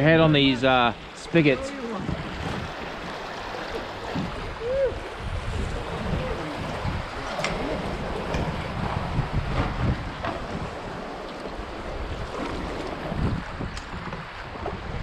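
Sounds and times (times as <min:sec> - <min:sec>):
river current rushing and lapping: 0:00.0 - 0:15.0
canoe paddle strokes: 0:00.3 - 0:15.0
wind rumble on microphone: 0:02.0 - 0:03.2, 0:03.9 - 0:15.0.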